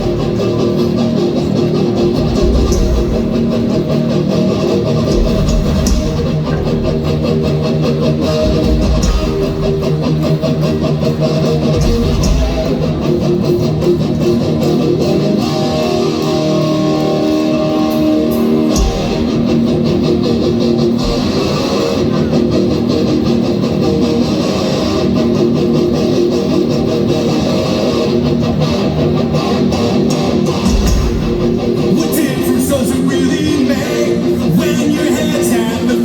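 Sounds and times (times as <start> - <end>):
punk rock band playing live: 0.0 - 36.0.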